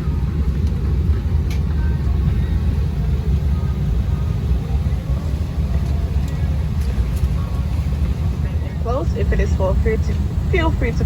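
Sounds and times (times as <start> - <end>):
faint passenger chatter: 0.0 - 11.0
low rumble in aircraft cabin: 0.0 - 11.0.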